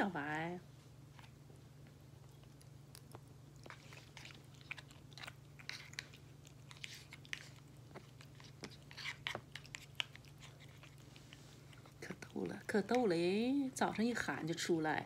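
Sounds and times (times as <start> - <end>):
cat chewing and licking: 0.9 - 14.0.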